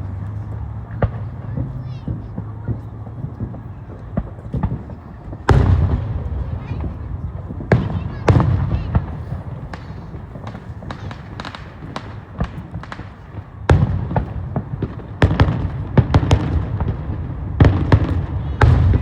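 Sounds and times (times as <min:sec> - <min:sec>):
fireworks booms and cracks: 0:00.2 - 0:19.0.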